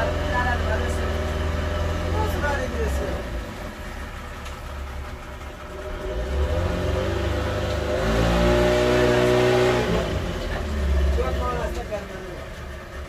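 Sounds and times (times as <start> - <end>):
outboard motor running and revving: 0.0 - 13.0.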